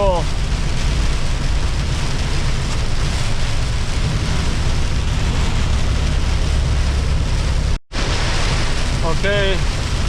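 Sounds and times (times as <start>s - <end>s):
heavy rain on truck cab: 0.0s - 10.0s
truck driving rumble: 0.0s - 10.0s.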